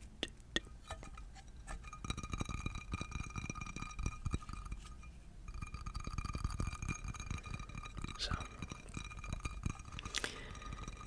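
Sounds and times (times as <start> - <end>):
pot ringing high tone: 0.6 - 11.0
rapid tapping on cooking pot: 0.6 - 11.0.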